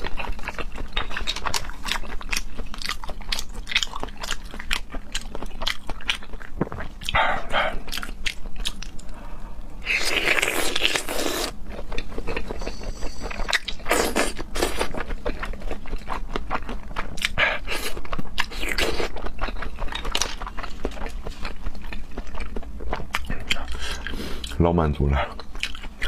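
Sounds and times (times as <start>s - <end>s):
wet chewing and smacking: 0.0s - 9.2s, 9.9s - 24.6s, 25.2s - 26.0s.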